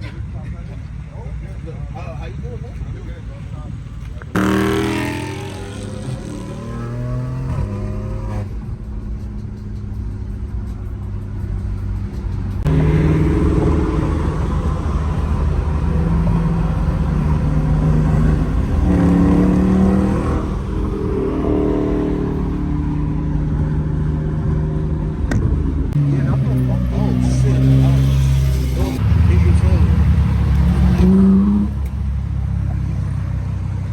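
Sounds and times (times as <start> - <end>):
car engine revving: 4.3 - 33.9.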